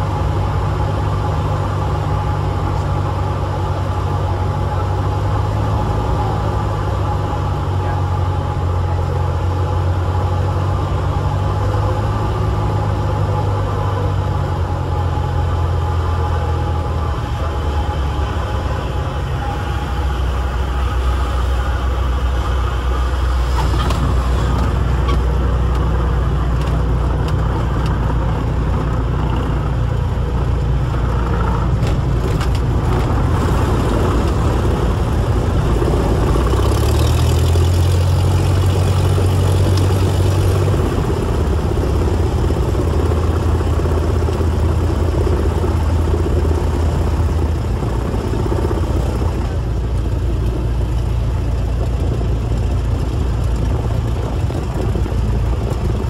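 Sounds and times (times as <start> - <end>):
light plane engine and propeller: 0.0 - 56.0.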